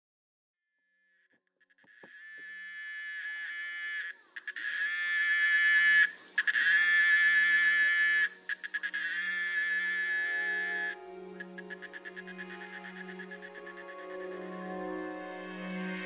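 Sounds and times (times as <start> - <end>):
insect buzzing: 1.6 - 15.8.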